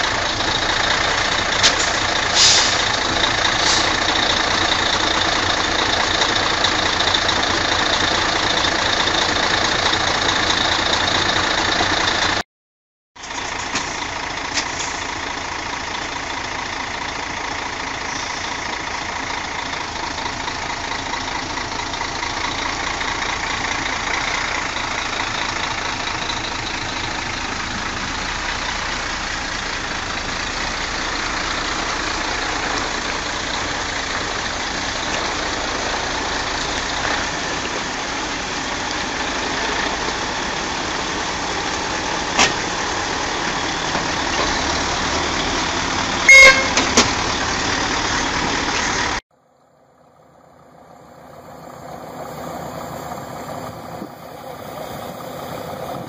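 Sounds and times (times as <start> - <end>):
diesel trucks idling: 0.0 - 12.4, 13.2 - 56.0.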